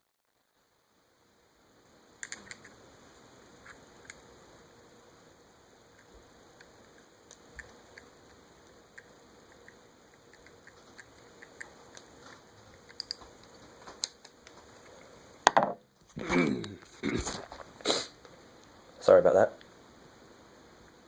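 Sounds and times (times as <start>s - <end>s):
low steady hiss: 0.0s - 21.0s.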